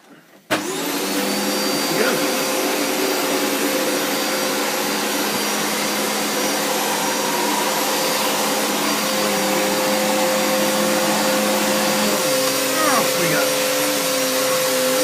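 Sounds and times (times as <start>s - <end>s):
vacuum cleaner running: 0.5s - 15.0s.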